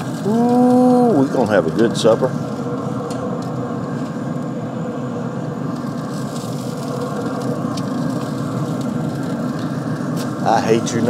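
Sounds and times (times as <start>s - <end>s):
smoker fan humming: 0.0s - 11.0s.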